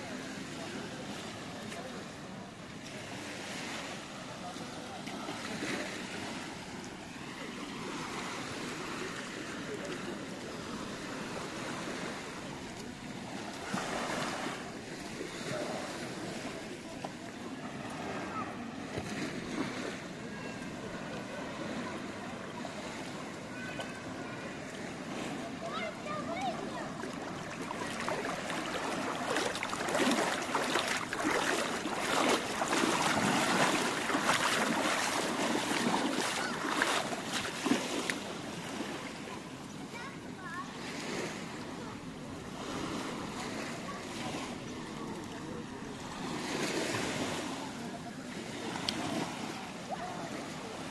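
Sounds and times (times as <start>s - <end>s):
small waves lapping on beach: 0.0s - 50.9s.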